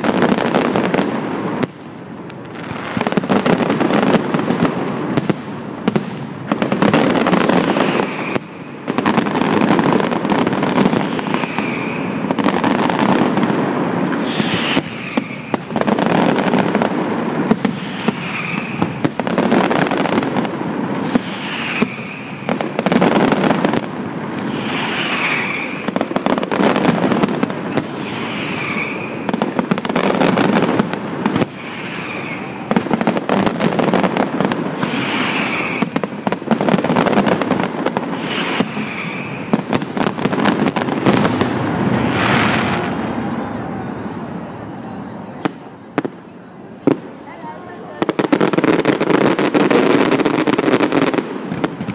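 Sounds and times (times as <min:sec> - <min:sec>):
fireworks bangs: 0:00.0 - 0:51.9
fireworks crackling: 0:00.0 - 0:51.9.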